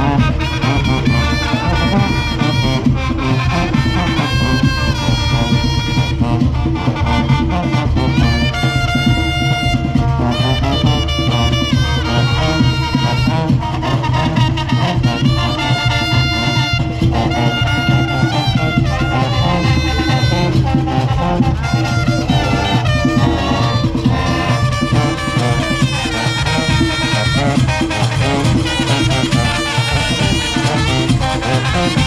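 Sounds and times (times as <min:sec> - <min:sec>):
brass horns playing melody: 0:00.0 - 0:32.0
drums beating: 0:00.0 - 0:32.0.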